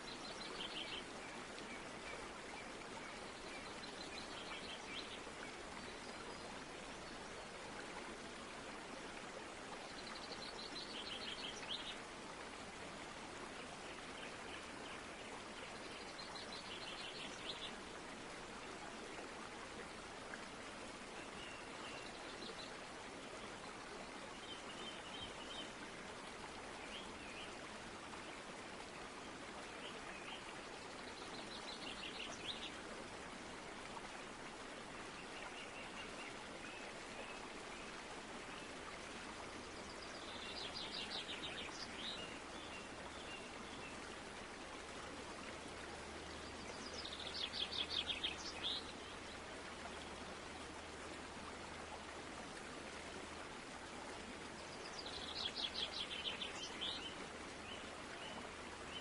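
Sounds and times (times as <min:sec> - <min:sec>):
rushing water noise: 0:00.0 - 0:59.0.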